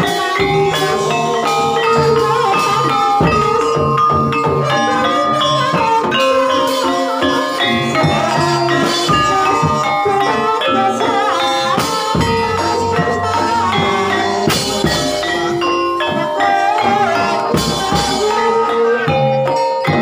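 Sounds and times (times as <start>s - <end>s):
rattling percussion: 0.0s - 20.0s.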